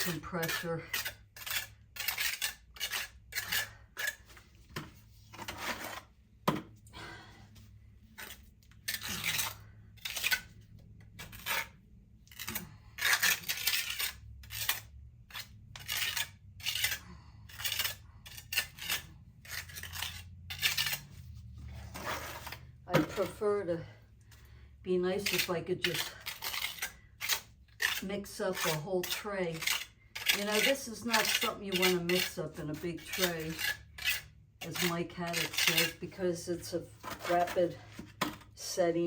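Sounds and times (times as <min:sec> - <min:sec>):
trowel scraping mortar on wall: 0:00.0 - 0:06.1, 0:08.0 - 0:23.9, 0:24.9 - 0:39.0.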